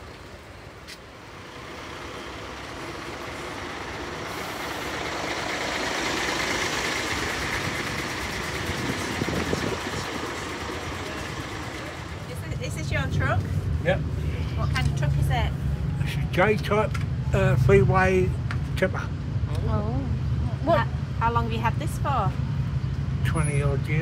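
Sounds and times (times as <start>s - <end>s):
bus engine and tyre noise: 0.0s - 24.0s.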